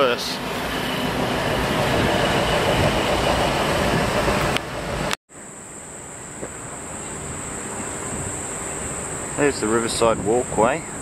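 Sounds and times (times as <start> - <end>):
high steady whine: 0.0 - 11.0
loud traffic or machinery noise: 0.0 - 11.0.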